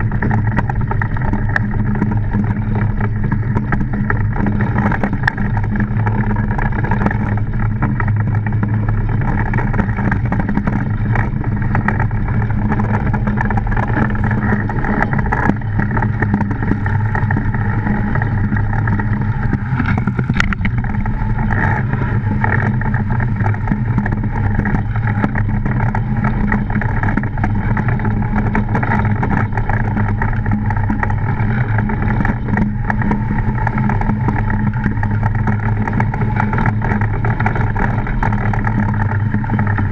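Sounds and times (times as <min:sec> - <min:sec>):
runners rumbling on ice: 0:00.0 - 0:39.9.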